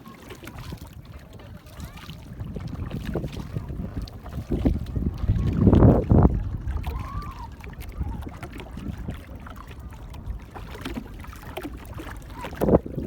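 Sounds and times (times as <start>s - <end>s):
low rumbling of boat: 0.0s - 13.0s
rush of wind and water: 0.0s - 13.0s
water splashes: 0.0s - 13.0s.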